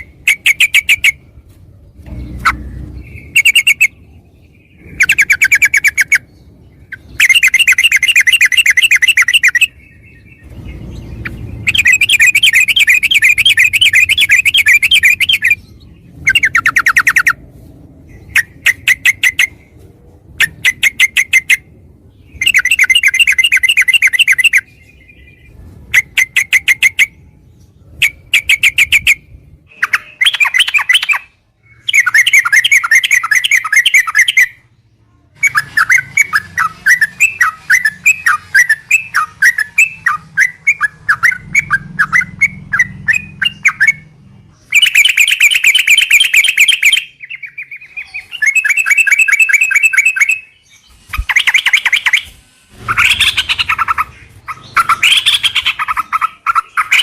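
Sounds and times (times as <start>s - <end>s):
bird singing chattering notes: 0.0s - 1.4s, 2.0s - 17.4s, 18.0s - 19.8s, 20.4s - 27.2s, 27.8s - 34.7s, 35.4s - 57.0s.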